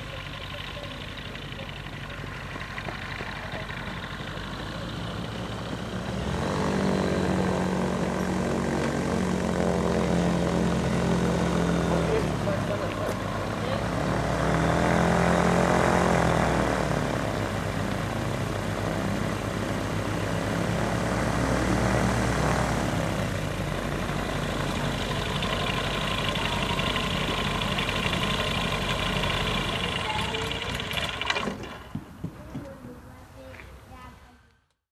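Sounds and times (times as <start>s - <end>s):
microlight engine and propeller running: 0.0s - 33.2s.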